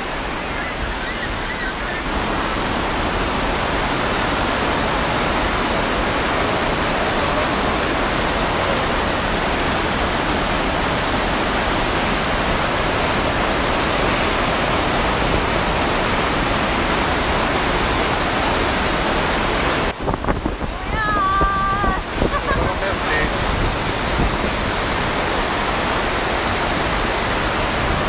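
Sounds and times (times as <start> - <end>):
waterfall crashing onto rocks: 2.1 - 28.0.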